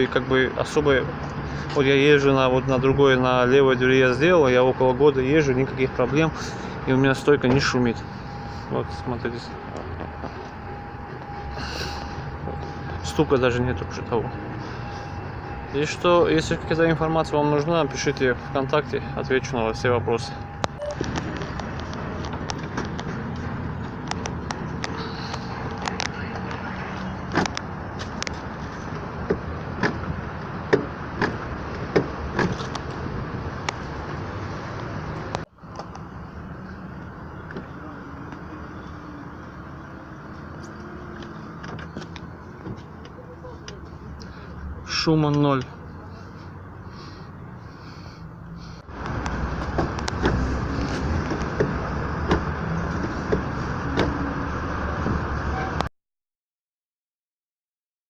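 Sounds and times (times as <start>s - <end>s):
road and engine noise in car: 0.0s - 55.9s.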